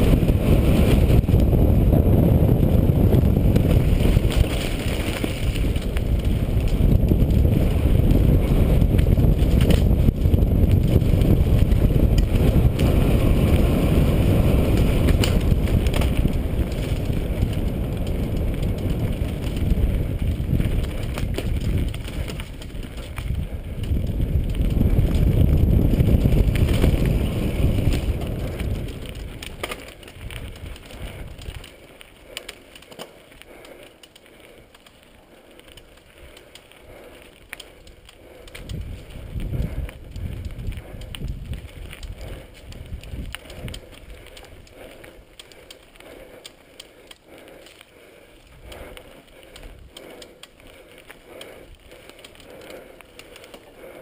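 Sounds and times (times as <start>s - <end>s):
wind buffeting microphone: 0.0s - 32.8s, 35.7s - 54.0s
bike knocking and rattling: 0.0s - 54.0s
tyres on dirt trail: 0.0s - 54.0s.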